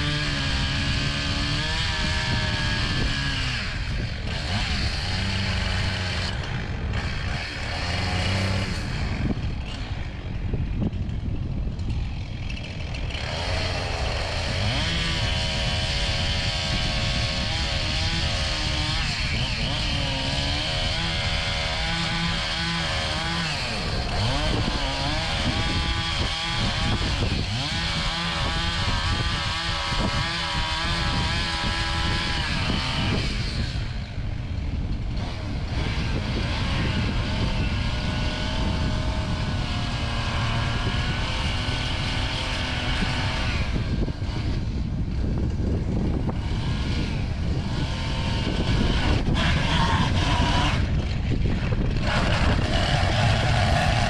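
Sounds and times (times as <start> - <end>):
engine machinery running: 0.0 - 54.0.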